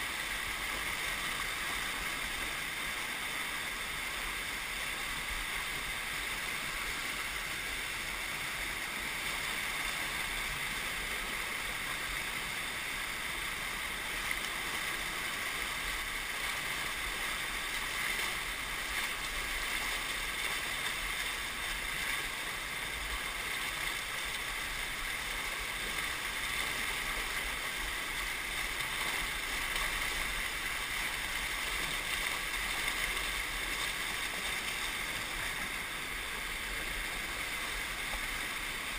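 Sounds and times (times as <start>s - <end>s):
rapids rushing over rocks: 0.0s - 38.9s.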